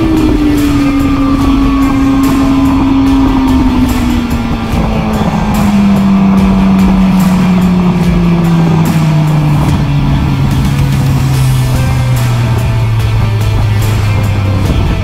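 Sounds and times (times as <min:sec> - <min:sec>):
racing motorcycle engine: 0:00.0 - 0:15.0
wind rush on microphone: 0:00.0 - 0:15.0.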